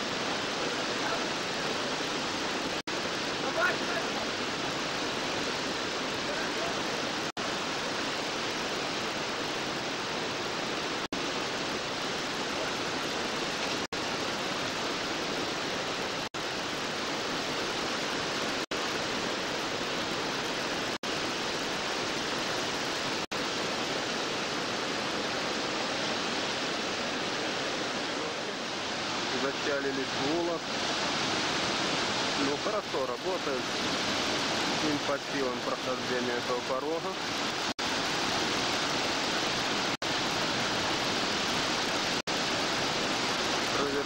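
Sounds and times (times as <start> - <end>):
whitewater rapid rushing: 0.0 - 44.0.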